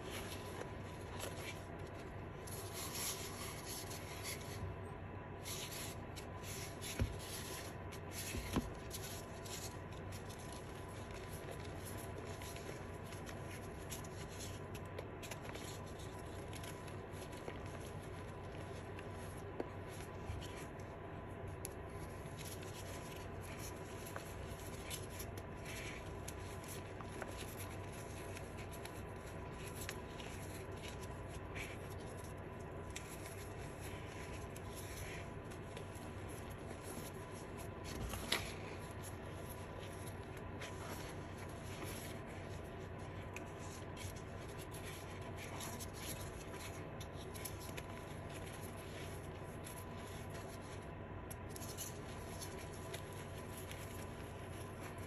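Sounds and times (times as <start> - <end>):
fingers crumbling powdery chalk: 0.0 - 55.0.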